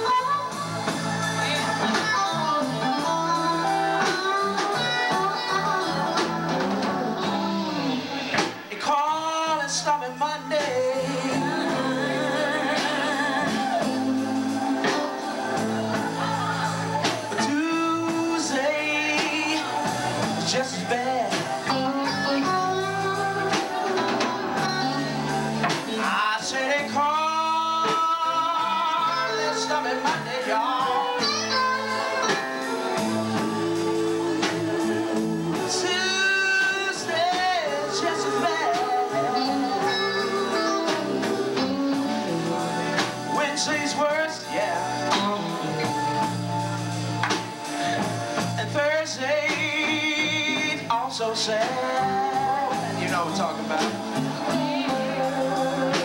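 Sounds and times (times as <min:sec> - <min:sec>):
drums: 0:00.0 - 0:56.0
electric guitar: 0:00.0 - 0:56.0
man singing: 0:01.3 - 0:08.1, 0:08.7 - 0:46.3, 0:47.6 - 0:56.0.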